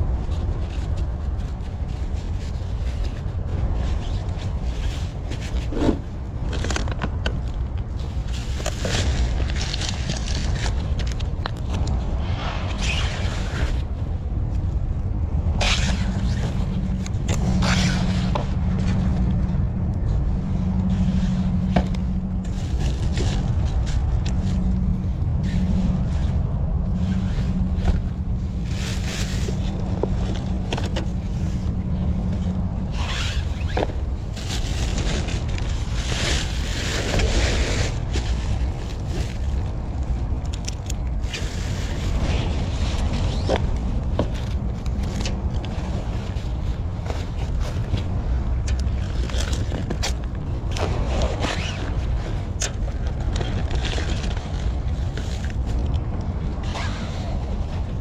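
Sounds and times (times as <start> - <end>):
hum: 0.0 - 58.0
items rustling and scraping: 0.0 - 58.0
steady low rumble: 0.0 - 58.0.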